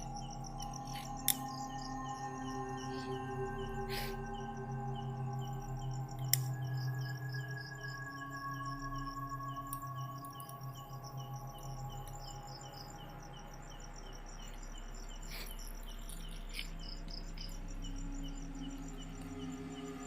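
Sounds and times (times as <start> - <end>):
pulsing insect chirp: 0.0 - 20.0
rapid insect chirring: 0.0 - 20.0.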